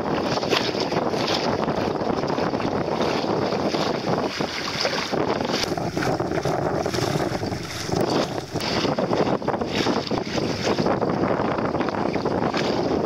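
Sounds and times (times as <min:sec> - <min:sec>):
wind buffeting microphone: 0:00.0 - 0:13.0
water splashing against boat hull: 0:00.2 - 0:10.8.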